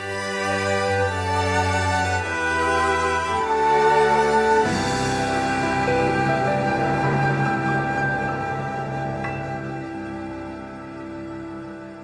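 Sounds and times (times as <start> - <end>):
cello violin and piano music: 0.0 - 12.0.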